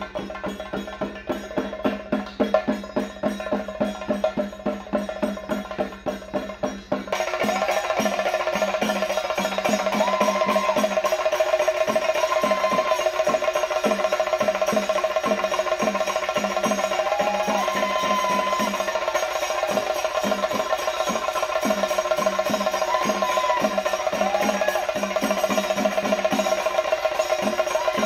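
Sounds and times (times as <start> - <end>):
drums beaten in quick rhythm: 0.0 - 28.0.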